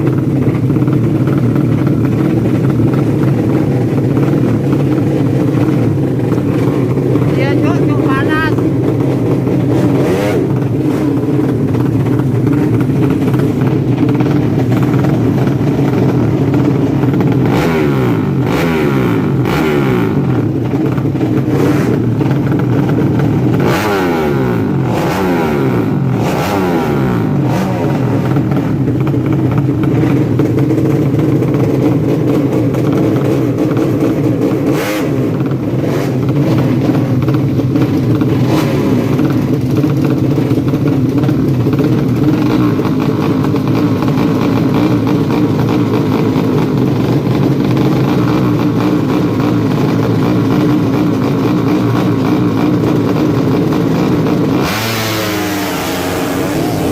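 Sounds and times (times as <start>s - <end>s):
motorcycle engines revving: 0.0s - 56.9s.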